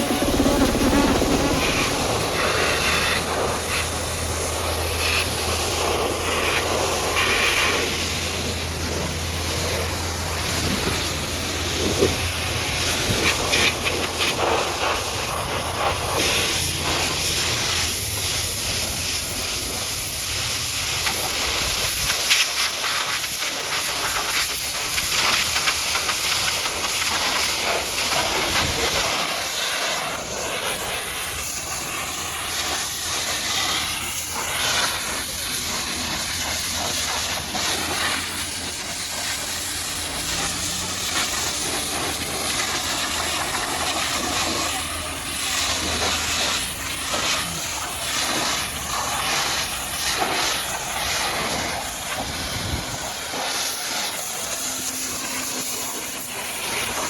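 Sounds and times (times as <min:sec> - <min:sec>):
high-pressure water jet spraying: 0:00.0 - 0:57.0.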